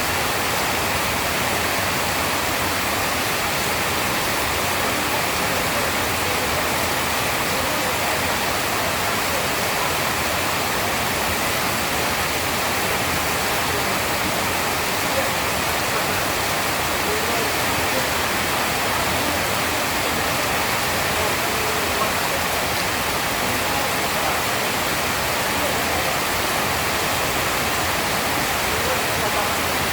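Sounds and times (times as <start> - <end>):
heavy rain: 0.0 - 29.9.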